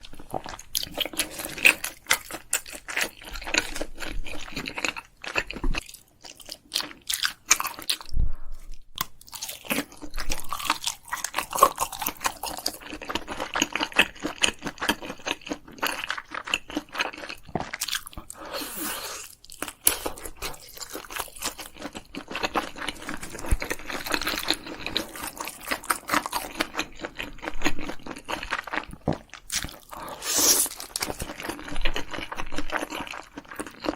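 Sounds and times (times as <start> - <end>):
crunching and chewing: 0.0 - 8.1, 8.7 - 33.9.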